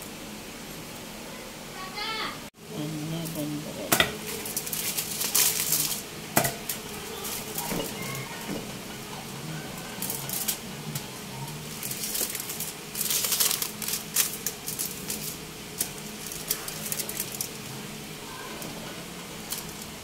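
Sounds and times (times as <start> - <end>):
aluminium foil crinkling: 3.1 - 8.5, 9.2 - 20.0.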